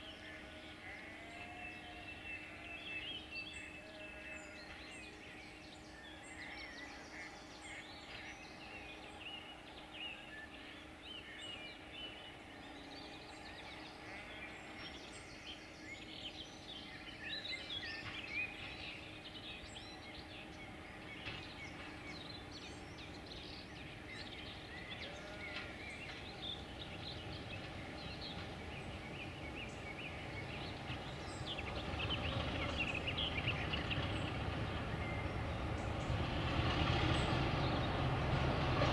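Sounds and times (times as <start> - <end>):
birds chirping and trilling: 0.0 - 38.9
diesel locomotive rumble: 0.0 - 38.9.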